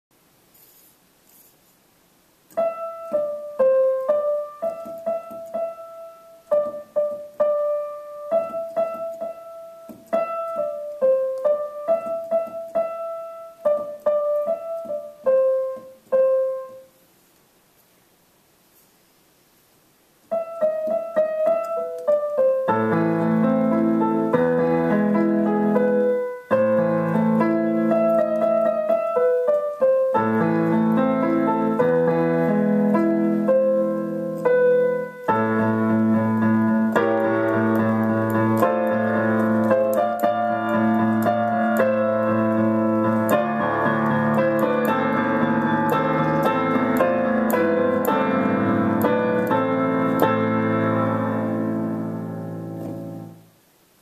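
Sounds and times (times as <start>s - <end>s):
digital piano playing: 2.5s - 17.0s, 20.3s - 53.5s.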